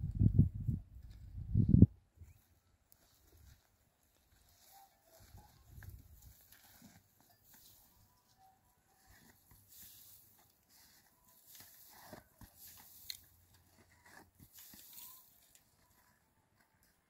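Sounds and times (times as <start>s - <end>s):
hoof scraping sandy ground: 3.1s - 16.9s.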